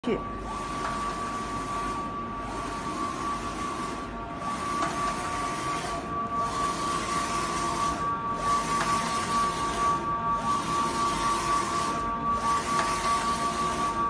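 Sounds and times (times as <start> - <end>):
inkjet printer running: 0.4 - 14.0.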